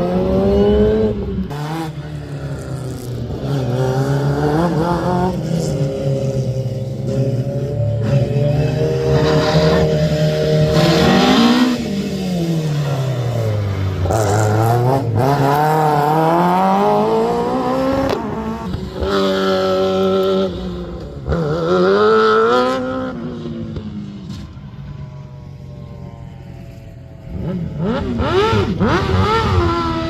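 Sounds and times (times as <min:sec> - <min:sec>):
rally car engine revving: 0:00.0 - 0:24.5, 0:27.3 - 0:30.0.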